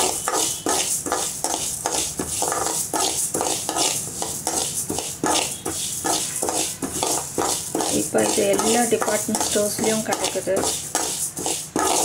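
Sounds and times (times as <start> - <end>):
spoon scraping seeds in metal pan: 0.0 - 12.0.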